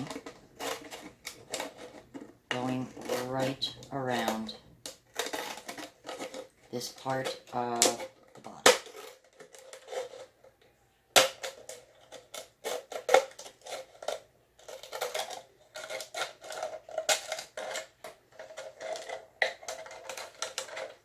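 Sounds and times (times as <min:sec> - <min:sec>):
plastic crackling: 0:00.0 - 0:21.0.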